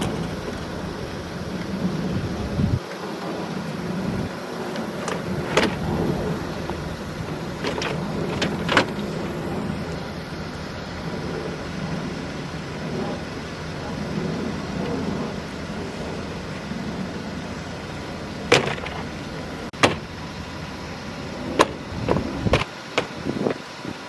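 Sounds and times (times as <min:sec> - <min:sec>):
vehicle running: 0:00.0 - 0:24.0.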